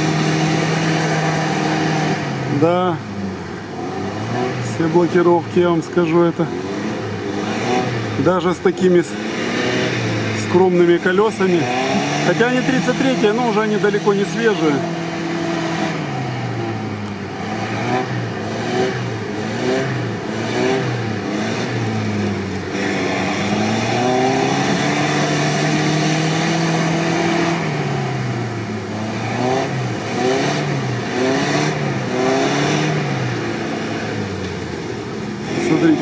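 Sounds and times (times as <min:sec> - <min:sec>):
suv engine revving: 0:00.0 - 0:36.0.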